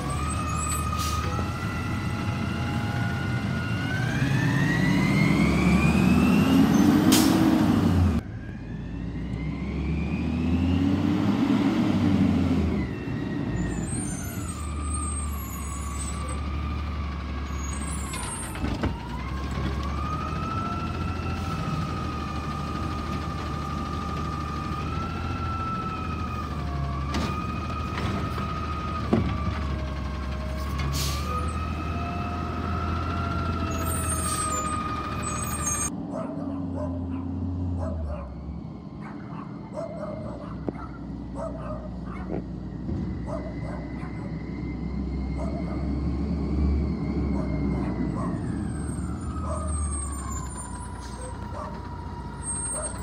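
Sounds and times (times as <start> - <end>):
garbage truck revving: 0.0 - 8.3, 8.9 - 38.5, 42.8 - 53.0.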